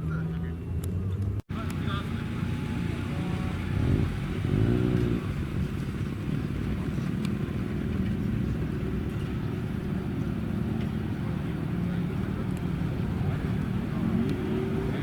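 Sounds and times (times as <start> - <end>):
car engine droning and revving: 0.7 - 15.0.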